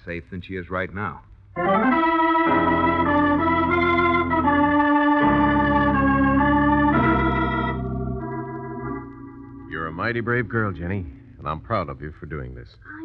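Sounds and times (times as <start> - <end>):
organ chords: 1.6 - 12.6.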